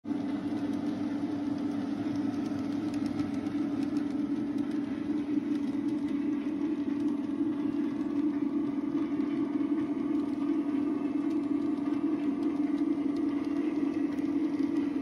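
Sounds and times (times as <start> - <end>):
model train motor hum: 0.1 - 15.0
wheels clicking on track: 0.1 - 15.0.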